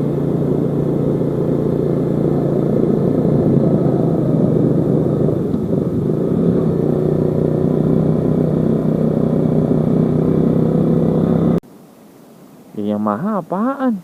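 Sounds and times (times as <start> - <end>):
motorcycle engine running: 0.0 - 11.6
road and wind noise: 0.0 - 11.7.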